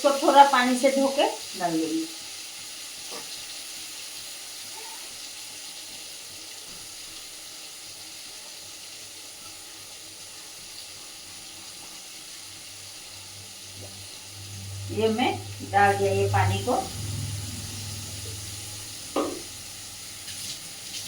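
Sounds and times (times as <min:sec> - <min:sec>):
water running from a tap: 0:00.0 - 0:21.0.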